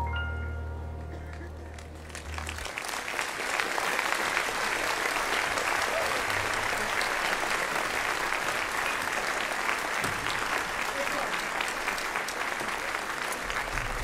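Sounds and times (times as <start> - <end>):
large audience applauding: 1.0 - 14.0.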